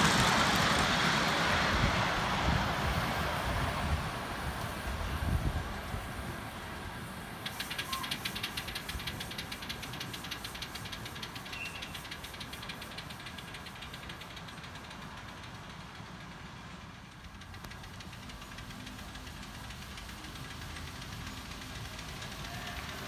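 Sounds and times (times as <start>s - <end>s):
miniature train clicking on track: 0.0s - 23.0s.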